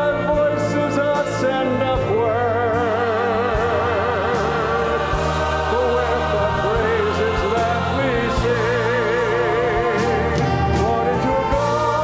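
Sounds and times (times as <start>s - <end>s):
choir singing with accompaniment: 0.0s - 12.0s.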